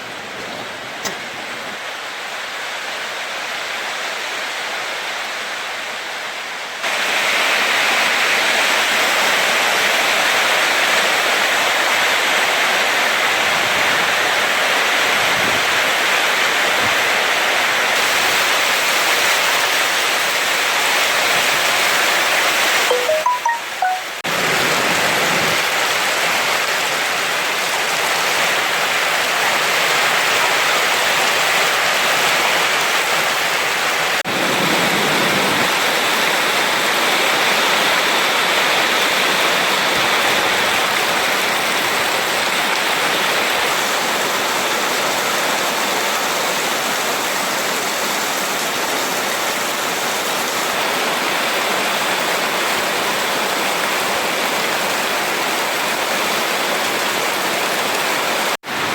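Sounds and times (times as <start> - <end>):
heavy rain downpour: 0.0 - 58.9.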